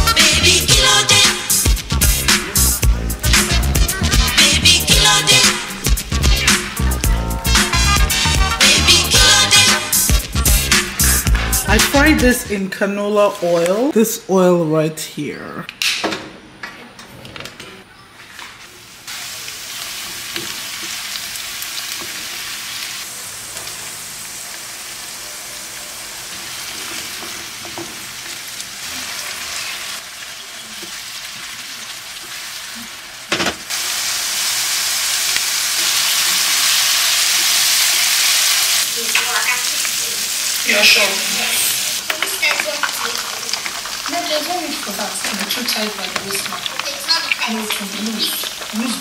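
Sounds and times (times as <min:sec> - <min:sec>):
food sizzling in oil: 0:00.0 - 0:12.2, 0:18.7 - 0:49.0.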